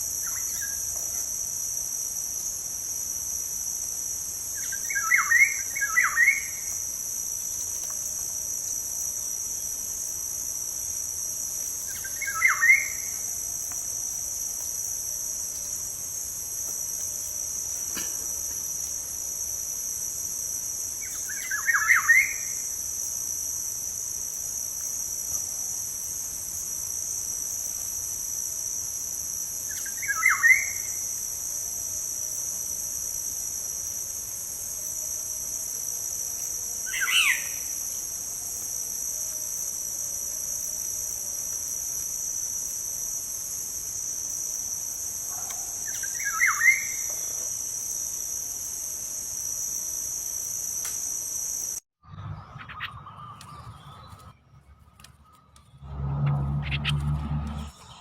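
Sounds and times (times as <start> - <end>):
high-pitched insect drone: 0.0 - 51.8.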